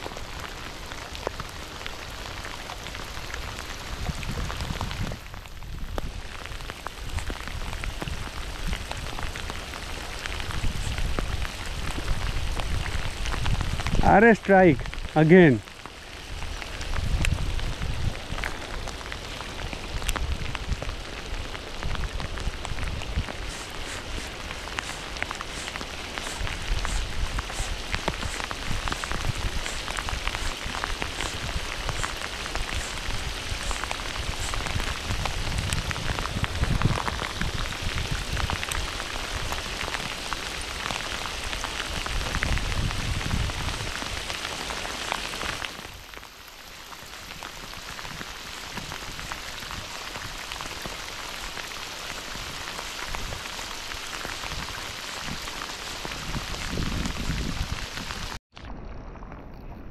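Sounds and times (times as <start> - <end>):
heavy rain: 0.0 - 59.6.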